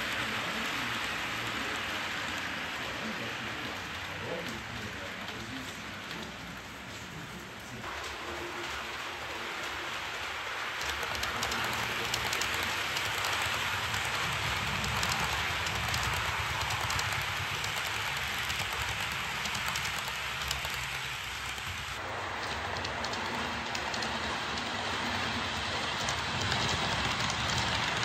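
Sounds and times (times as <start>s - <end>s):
model train wheels rolling: 0.0s - 28.0s.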